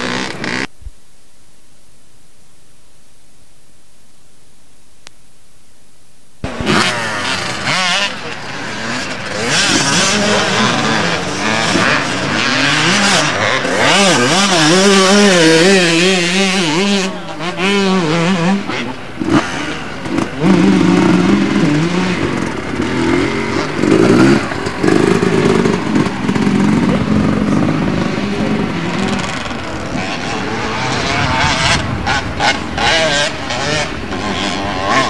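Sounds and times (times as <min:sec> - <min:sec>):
motocross bike engines revving: 0:00.0 - 0:00.7, 0:06.4 - 0:35.0.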